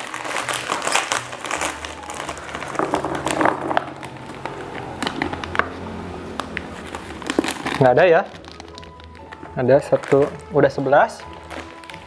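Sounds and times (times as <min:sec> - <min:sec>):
snacks rattling into plastic jar: 0:00.0 - 0:05.5, 0:06.8 - 0:12.0
plastic packet crinkling: 0:00.0 - 0:12.0.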